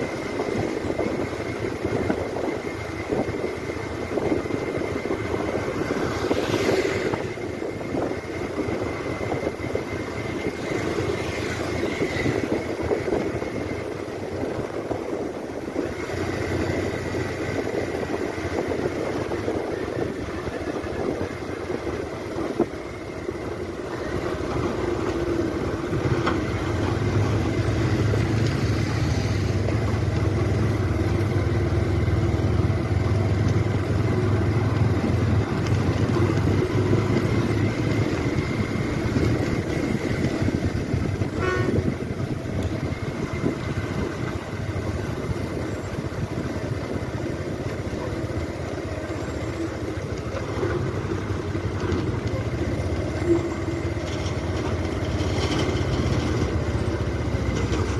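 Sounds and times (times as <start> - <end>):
vehicle engine and road noise: 0.0 - 57.9.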